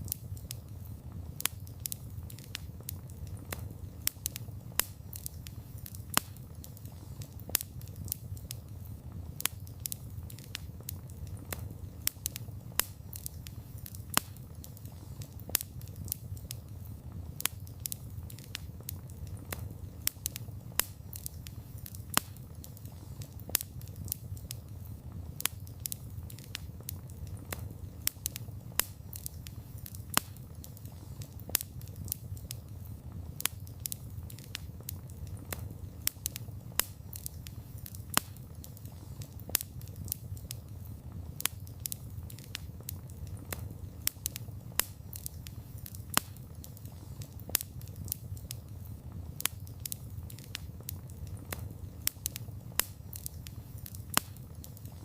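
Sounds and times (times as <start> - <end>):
burning wood crackling and popping: 0.0 - 55.0
fire flames rumbling: 0.0 - 55.0.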